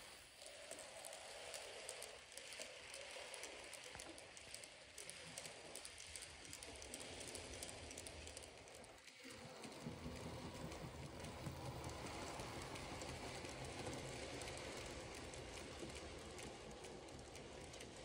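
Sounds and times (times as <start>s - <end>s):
model train motor whirr: 0.0s - 18.0s
wheels clicking on rails: 0.0s - 18.0s.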